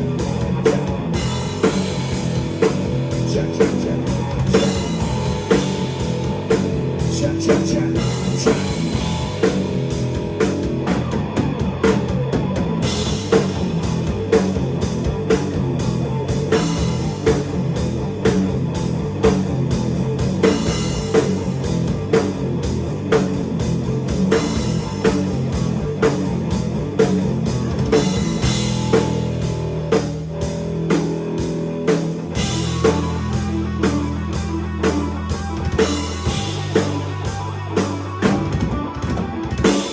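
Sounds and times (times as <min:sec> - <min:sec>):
drum kit steady beat: 0:00.0 - 0:39.9
guitar: 0:00.0 - 0:39.9
sustained bass notes: 0:00.0 - 0:39.9.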